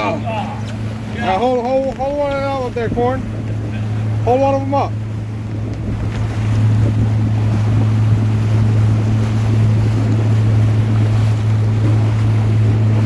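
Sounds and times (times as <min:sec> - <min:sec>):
boat motor humming: 0:00.0 - 0:13.0
wind buffeting microphone: 0:00.0 - 0:13.0.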